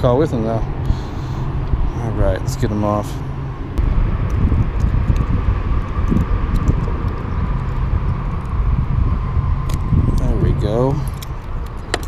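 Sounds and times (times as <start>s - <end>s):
freeway traffic rumble: 0.0s - 12.0s.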